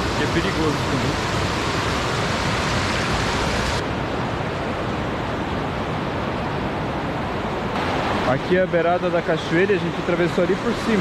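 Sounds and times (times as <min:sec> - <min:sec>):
river roaring over rock: 0:00.0 - 0:11.0.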